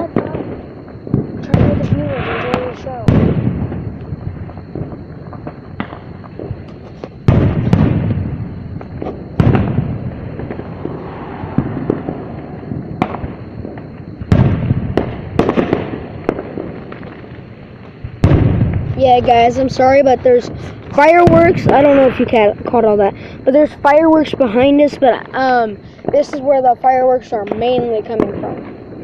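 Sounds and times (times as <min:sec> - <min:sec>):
fireworks bursting with booms: 0:00.0 - 0:23.9, 0:27.3 - 0:29.0
fireworks rumble and crackle: 0:00.0 - 0:29.0.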